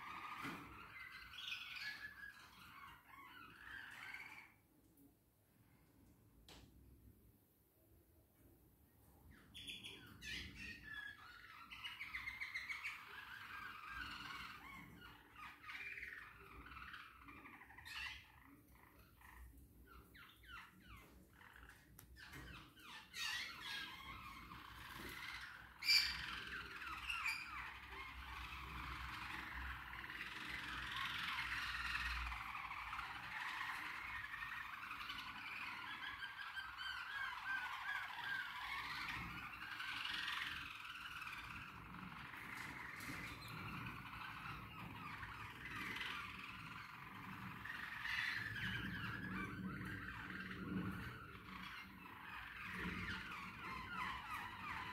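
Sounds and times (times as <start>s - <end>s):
canaries chirping and singing: 0.0s - 4.6s, 9.2s - 54.9s.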